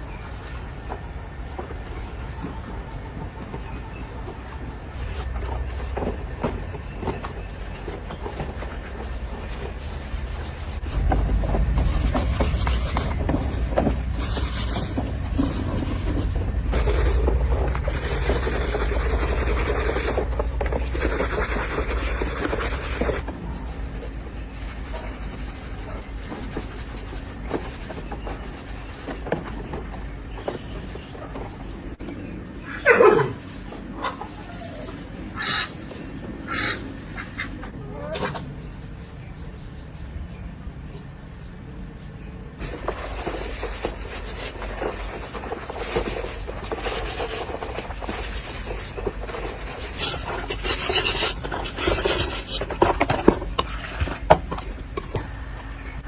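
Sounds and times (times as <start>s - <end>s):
rough rubbing and scraping: 1.5s - 32.0s, 32.8s - 37.8s, 42.6s - 56.0s.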